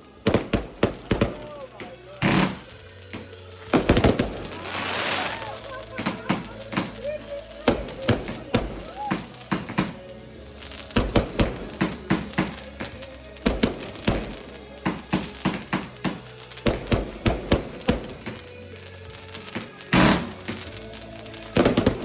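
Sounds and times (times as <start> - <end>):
fireworks bangs: 0.0 - 22.0
music: 0.0 - 22.0.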